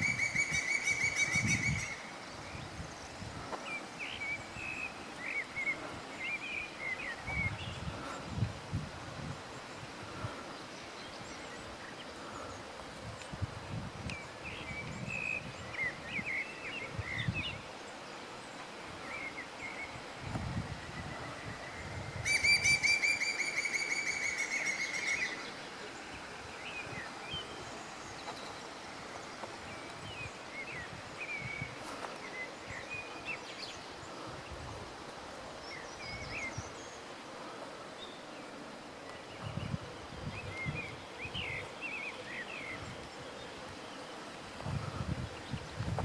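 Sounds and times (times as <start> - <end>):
birds chirping: 0.0 - 8.5, 9.4 - 46.0.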